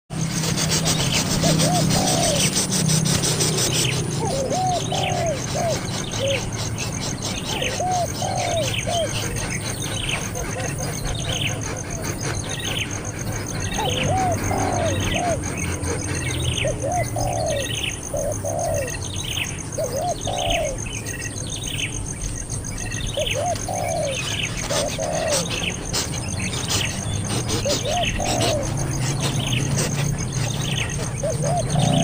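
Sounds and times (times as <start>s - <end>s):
baby bird chirping: 0.3s - 20.8s, 23.0s - 32.0s.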